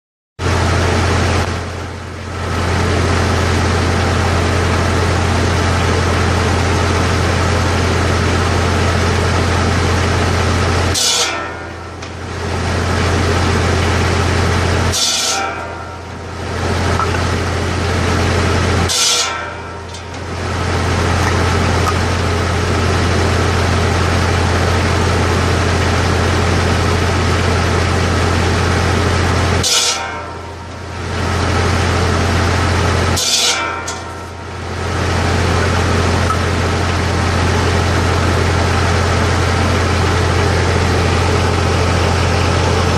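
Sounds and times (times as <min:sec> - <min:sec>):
saw blade ringing whine: 0:00.5 - 0:42.9
circular saw humming: 0:00.6 - 0:42.9.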